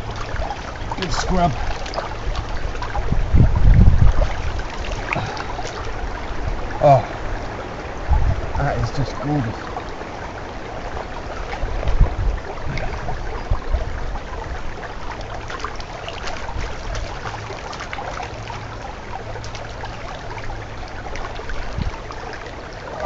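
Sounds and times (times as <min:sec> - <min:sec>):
low bumps of washing: 0:00.0 - 0:22.3
shallow stream running: 0:00.0 - 0:23.0.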